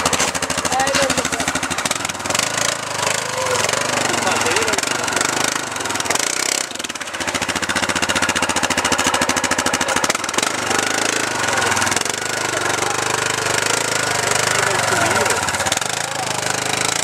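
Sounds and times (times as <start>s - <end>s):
engine chugging at low revs: 0.0s - 17.0s.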